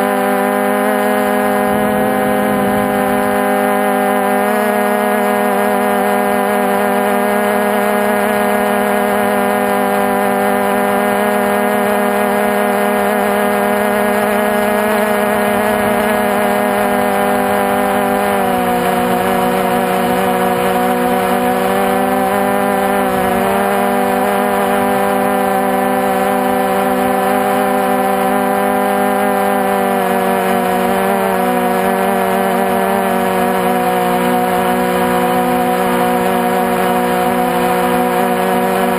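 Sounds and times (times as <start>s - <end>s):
drone propellers droning hum: 0.0s - 38.9s.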